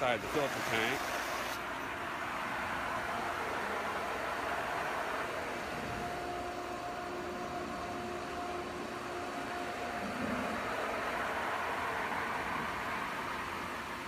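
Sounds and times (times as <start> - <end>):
pool pump running: 0.0 - 14.0
faint steady tone: 1.7 - 14.0.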